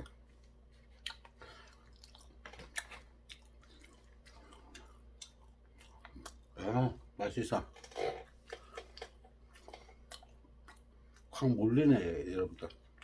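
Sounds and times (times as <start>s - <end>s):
person chewing food: 0.0s - 11.5s.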